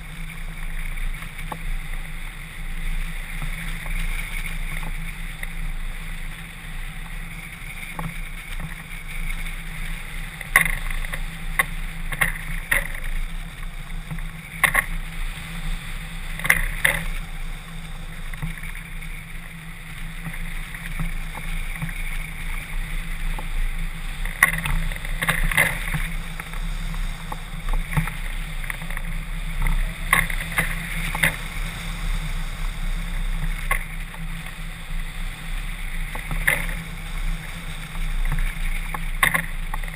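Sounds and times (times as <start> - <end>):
wind noise on camera: 0.0 - 39.9.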